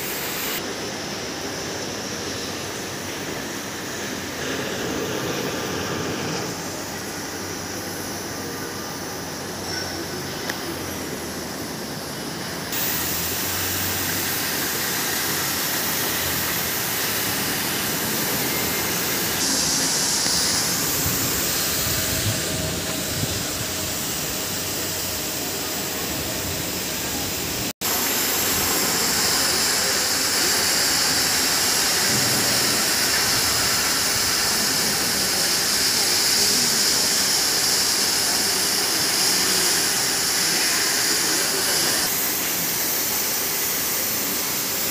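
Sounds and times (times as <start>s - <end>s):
cutting torches hissing: 0.0s - 0.6s, 3.2s - 9.7s, 10.5s - 44.9s.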